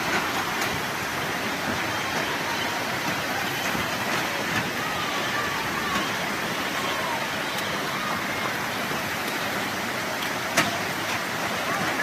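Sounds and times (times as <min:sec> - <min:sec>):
faint voices: 0:00.0 - 0:12.0
rushing storm water: 0:00.0 - 0:12.0.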